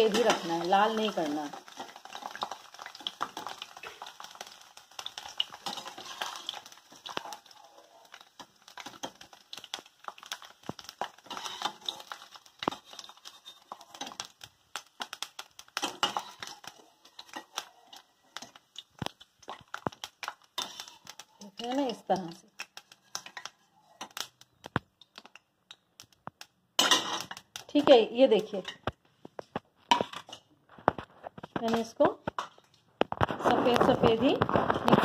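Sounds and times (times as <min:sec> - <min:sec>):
oil crackling and popping: 0:00.0 - 0:35.0.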